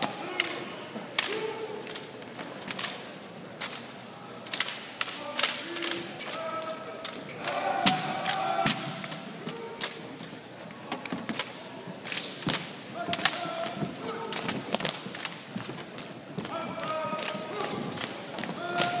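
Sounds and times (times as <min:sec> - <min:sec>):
voices: 0:00.0 - 0:19.0
rifles slapped and caught: 0:00.3 - 0:03.0, 0:04.5 - 0:10.3, 0:10.9 - 0:19.0.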